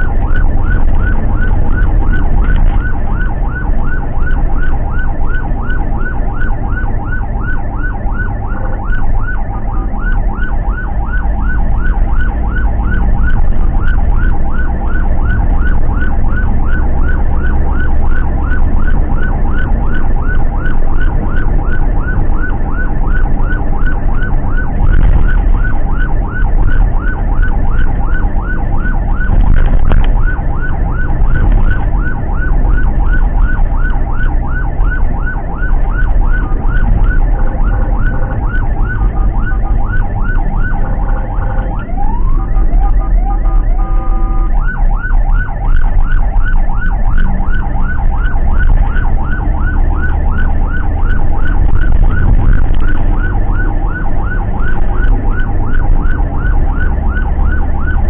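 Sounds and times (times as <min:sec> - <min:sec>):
engine and road rumble: 0:00.0 - 0:58.0
siren yelping: 0:00.0 - 0:58.0.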